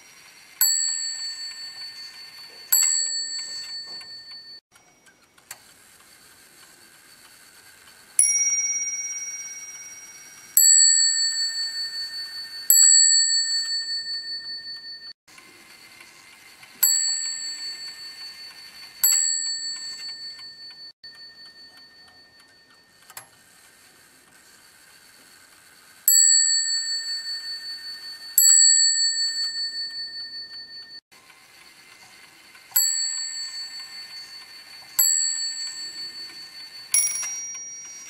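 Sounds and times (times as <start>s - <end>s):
table clock striking bells: 0.1s - 4.6s, 8.2s - 23.2s, 26.1s - 38.0s.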